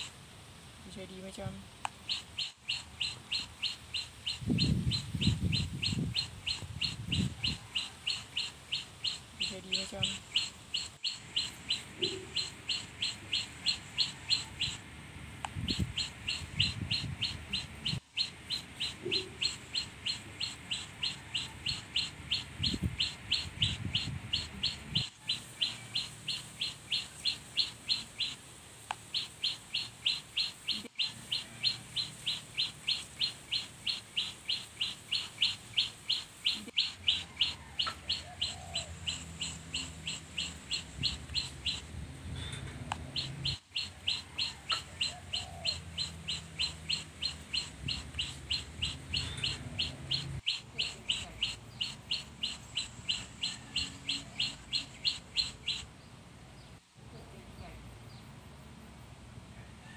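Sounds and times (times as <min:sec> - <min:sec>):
bird high chirps: 0:00.9 - 0:14.8, 0:15.5 - 0:56.0.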